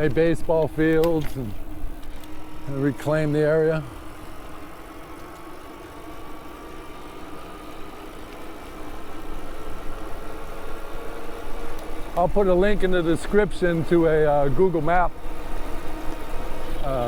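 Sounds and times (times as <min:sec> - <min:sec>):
bike tyres and wind noise: 0:00.0 - 0:17.0
faint motor whine: 0:00.0 - 0:17.0.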